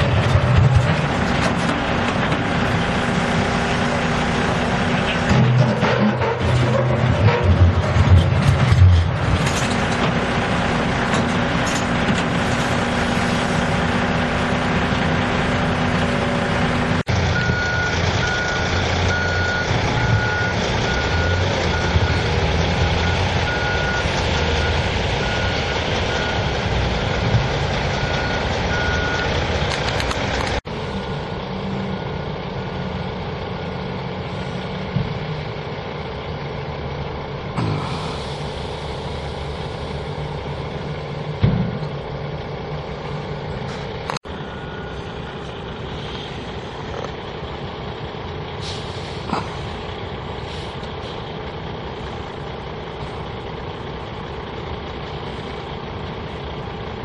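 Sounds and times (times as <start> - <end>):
diesel heavy equipment running: 0.0 - 57.0.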